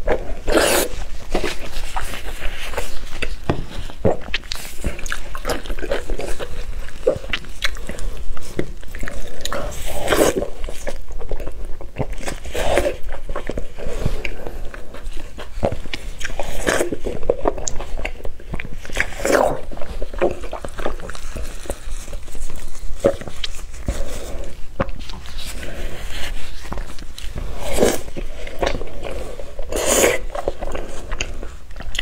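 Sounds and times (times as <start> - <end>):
chewing soft food: 0.0 - 32.0.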